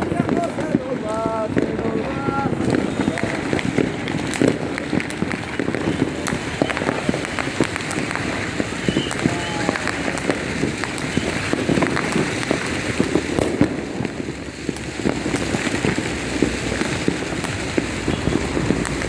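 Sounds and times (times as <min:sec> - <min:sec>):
fireworks crackling and popping: 0:00.0 - 0:19.0
loud firework bangs: 0:00.0 - 0:19.0.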